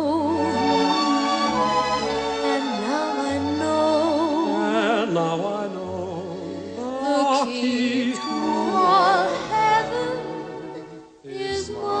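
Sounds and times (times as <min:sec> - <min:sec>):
woman singing romantic song: 0:00.0 - 0:01.8, 0:02.4 - 0:05.8, 0:06.4 - 0:12.0.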